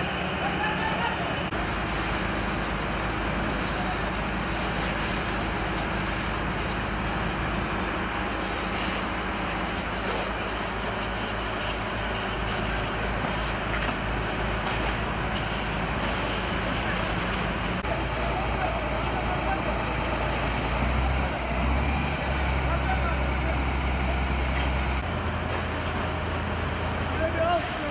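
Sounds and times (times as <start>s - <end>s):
fire engine motor running: 0.0s - 27.9s
rush of building fire: 0.0s - 27.9s.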